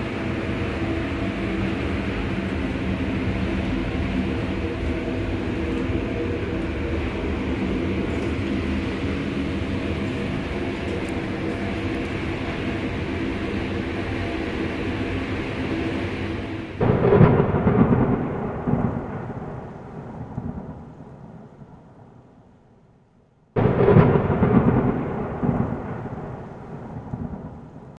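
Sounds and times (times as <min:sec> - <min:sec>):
steady rushing noise: 0:00.0 - 0:22.4, 0:23.6 - 0:28.0
thunder rolling: 0:00.0 - 0:22.6, 0:23.6 - 0:28.0.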